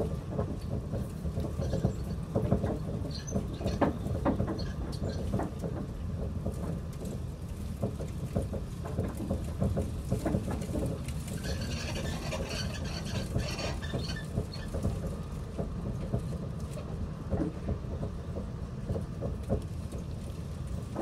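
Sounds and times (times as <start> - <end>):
heavy rain on roof and windows: 0.0 - 21.0.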